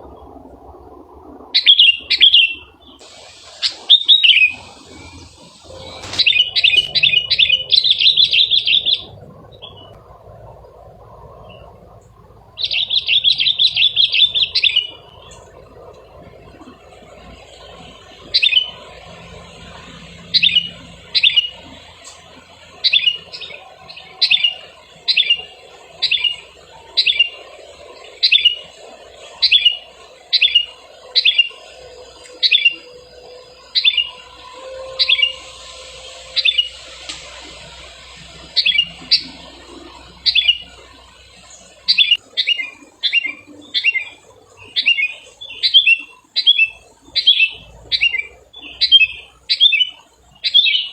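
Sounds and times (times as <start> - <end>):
decoy bird chirping: 1.6 - 10.0, 12.5 - 50.9.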